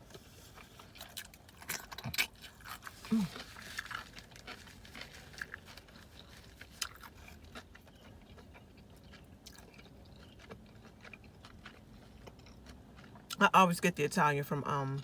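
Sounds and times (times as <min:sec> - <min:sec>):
person chewing food: 0:00.0 - 0:13.4.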